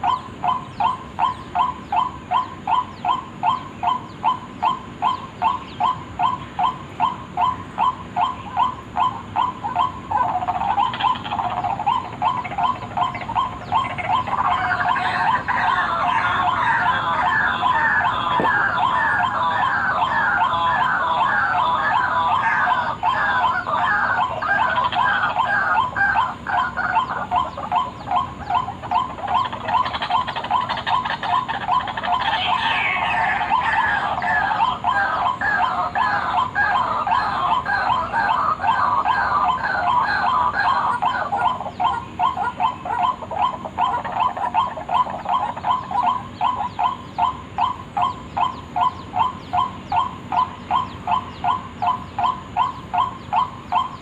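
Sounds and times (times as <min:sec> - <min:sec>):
waterhens croaking calls: 0:00.0 - 0:54.0.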